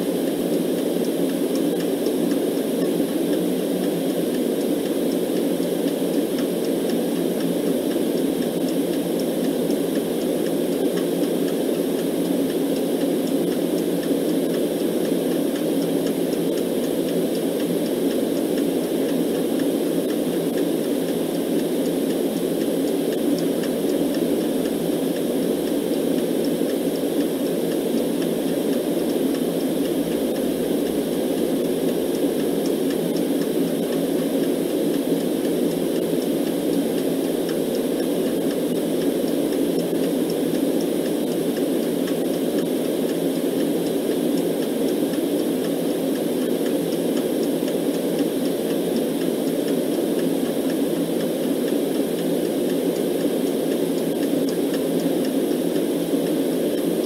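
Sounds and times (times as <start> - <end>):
white noise: 0.0 - 57.0.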